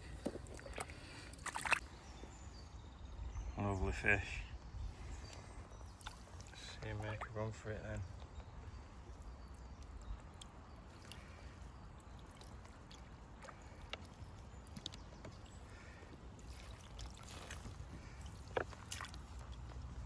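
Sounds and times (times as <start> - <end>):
river water trickling: 0.0 - 20.0
small clicks and splashes: 0.0 - 20.0.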